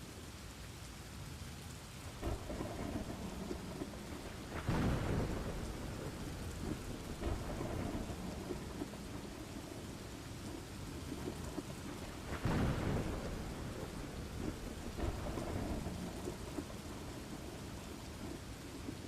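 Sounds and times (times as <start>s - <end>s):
steady rain: 0.0s - 19.0s
rolling thunder: 2.2s - 19.0s.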